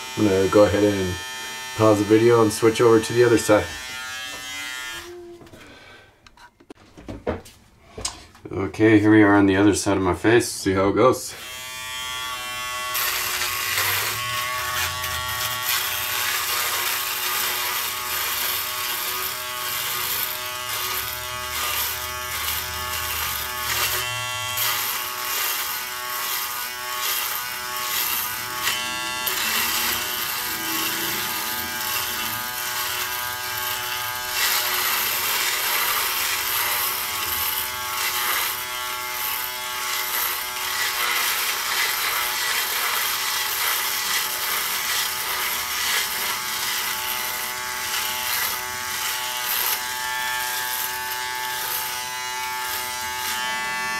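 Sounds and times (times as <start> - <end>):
electric shaver buzzing: 0.0 - 5.5, 11.3 - 53.9.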